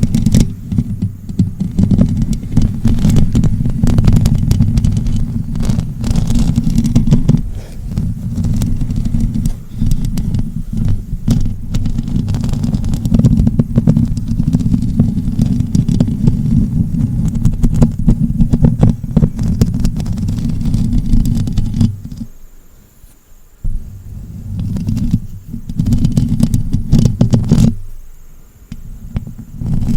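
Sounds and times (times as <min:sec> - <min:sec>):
nails scraping microphone: 0:00.0 - 0:22.4, 0:23.0 - 0:28.0, 0:28.7 - 0:29.9.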